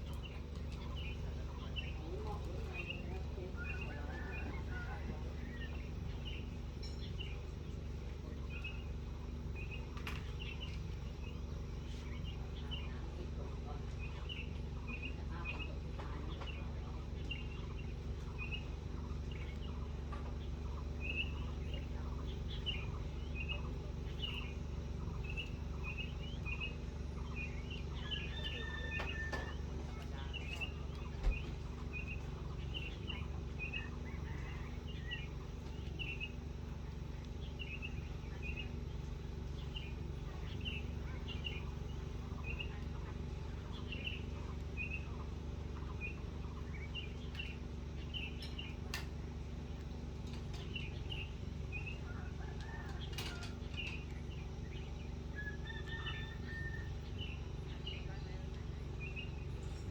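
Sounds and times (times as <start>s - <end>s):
birds chirping: 0.0s - 59.9s
low background rumble: 0.0s - 59.9s.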